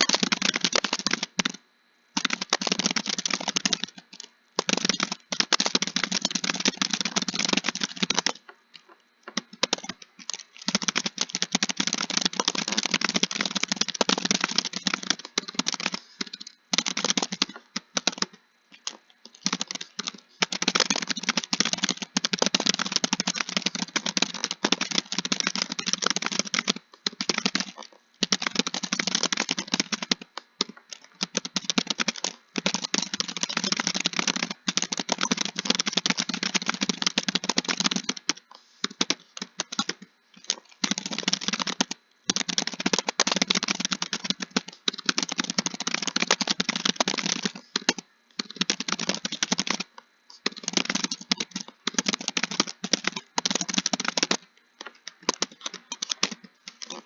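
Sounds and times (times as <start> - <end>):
fast typing on keyboard: 0.0 - 57.0.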